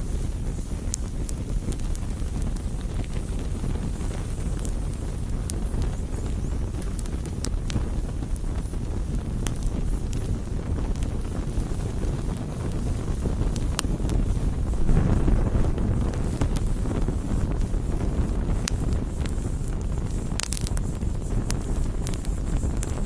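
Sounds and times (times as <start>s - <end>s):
burning wood popping: 0.0s - 23.0s
campfire flames rushing: 0.0s - 23.0s.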